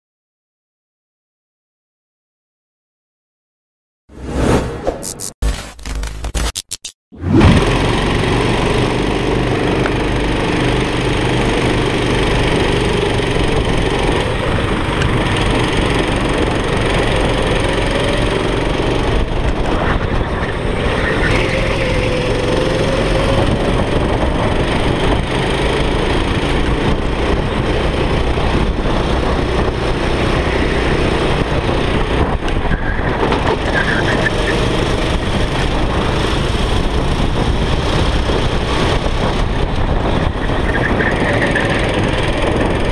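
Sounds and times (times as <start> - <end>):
rush of noise: 4.1 - 6.5, 7.2 - 42.9
go-kart engine running hard: 7.2 - 42.9.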